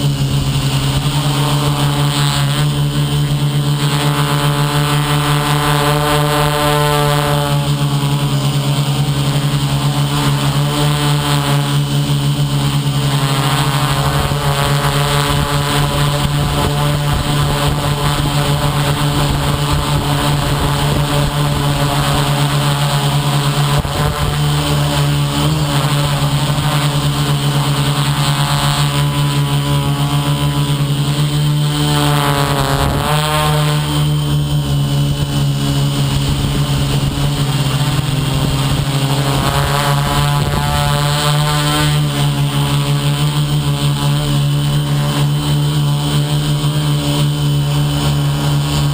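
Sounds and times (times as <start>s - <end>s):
model aircraft motors whining: 0.0s - 48.9s.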